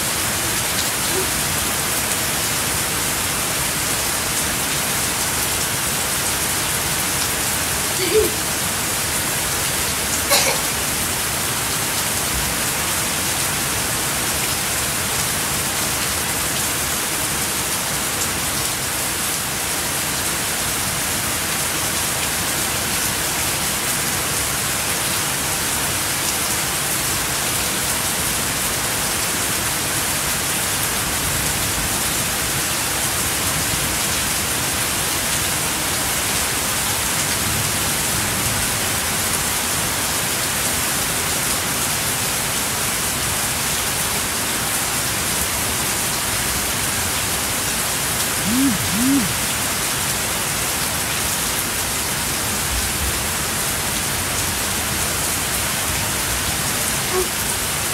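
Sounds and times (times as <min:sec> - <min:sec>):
heavy rain on foliage and patio: 0:00.0 - 0:57.9.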